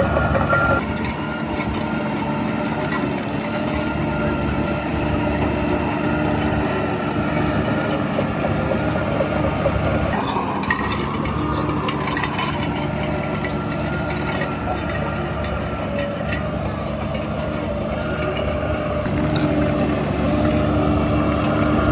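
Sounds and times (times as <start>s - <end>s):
heavy diesel engine running: 0.0s - 21.9s.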